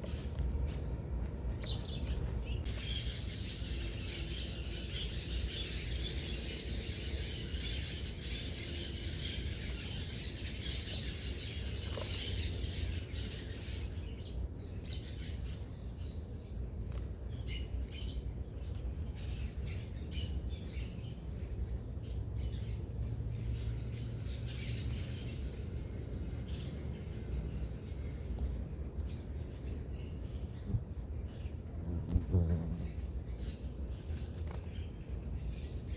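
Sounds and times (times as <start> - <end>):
small birds chirping and squawking: 0.0 - 35.9.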